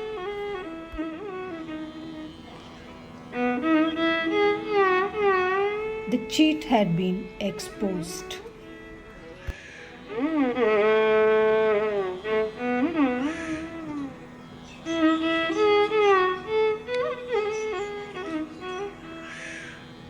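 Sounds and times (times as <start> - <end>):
bowed string instrument melody: 0.0 - 20.0.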